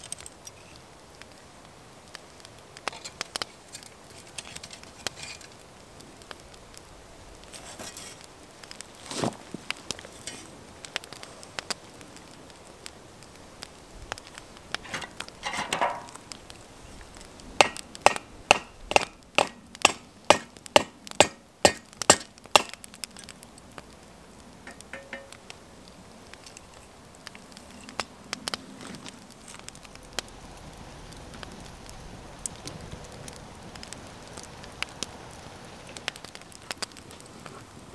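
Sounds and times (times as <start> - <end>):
campfire crackling: 0.0 - 37.9.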